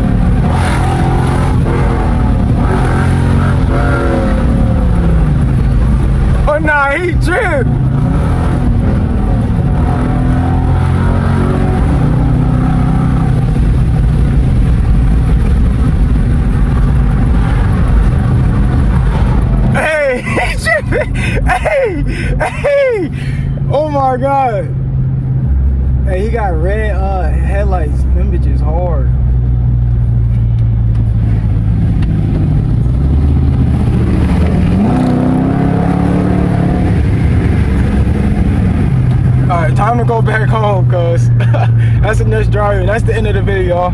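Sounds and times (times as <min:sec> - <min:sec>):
loud deep car engine driving: 0:00.0 - 0:43.9.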